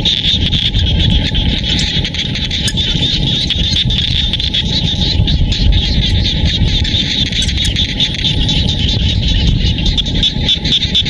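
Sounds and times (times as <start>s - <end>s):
frogs trilling: 0.0s - 11.0s
low rumble: 0.3s - 10.8s.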